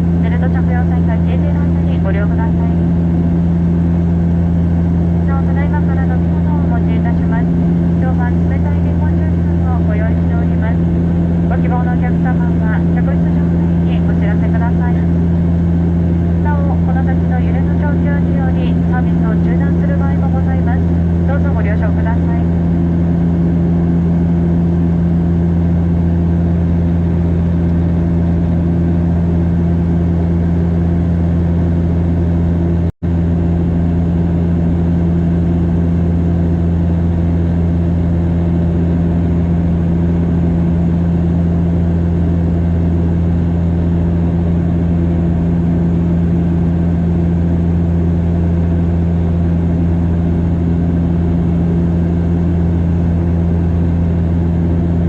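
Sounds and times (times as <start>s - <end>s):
turboprop cabin drone: 0.0s - 55.0s.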